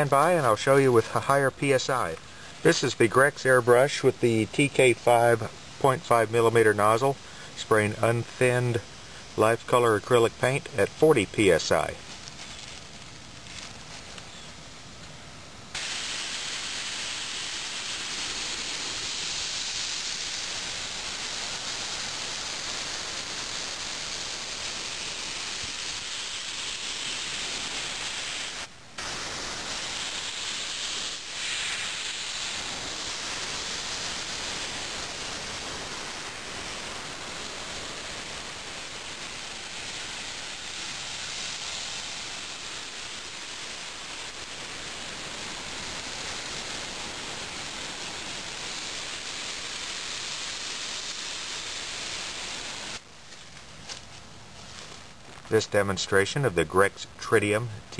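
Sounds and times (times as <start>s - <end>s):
airbrush hissing compressed air: 0.0s - 14.7s, 15.3s - 53.0s.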